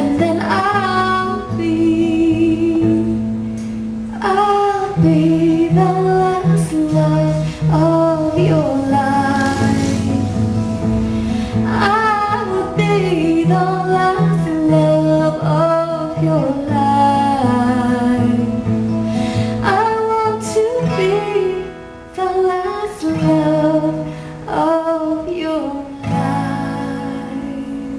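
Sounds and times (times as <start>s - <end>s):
acoustic guitar strumming: 0.0s - 27.9s
woman singing: 0.0s - 27.9s.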